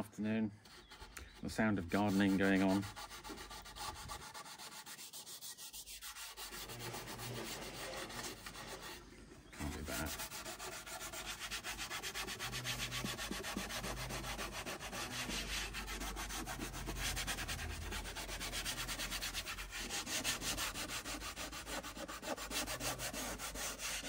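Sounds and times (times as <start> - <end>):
sandpaper rubbing on wood: 0.6 - 24.0.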